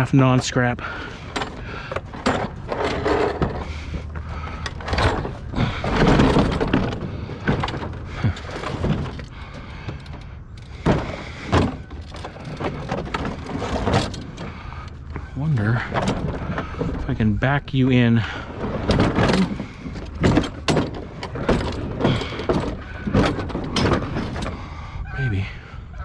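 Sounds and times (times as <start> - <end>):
knocks and clanks of junk: 0.0 - 25.2
rattling and scraping: 0.0 - 26.0.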